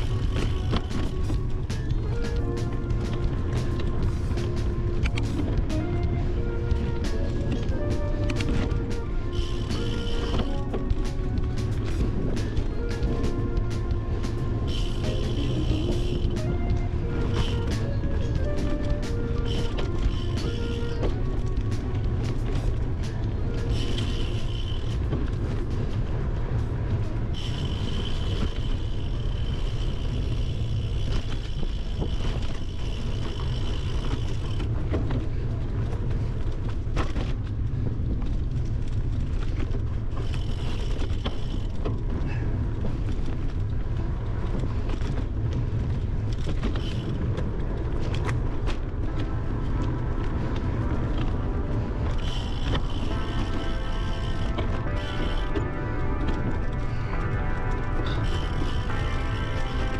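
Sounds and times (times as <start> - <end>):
bicycle riding over gravel: 0.0 - 59.9
wind and trail rumble: 0.0 - 59.9.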